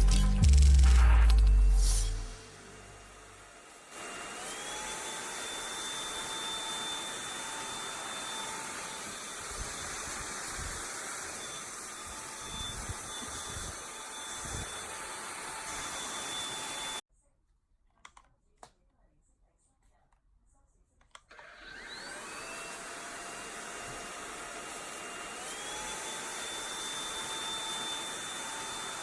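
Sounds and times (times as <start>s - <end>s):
robot vacuum whine: 1.0s - 17.0s, 21.3s - 29.0s.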